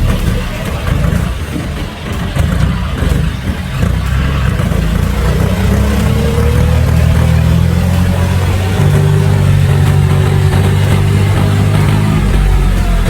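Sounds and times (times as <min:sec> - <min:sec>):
tractor diesel engine throbbing: 0:00.0 - 0:13.0.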